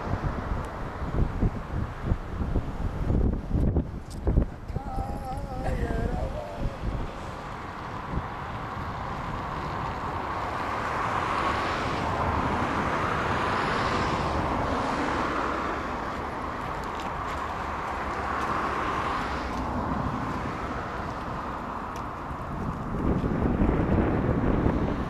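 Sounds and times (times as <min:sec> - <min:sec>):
passing vehicles hissing: 0:00.0 - 0:25.0.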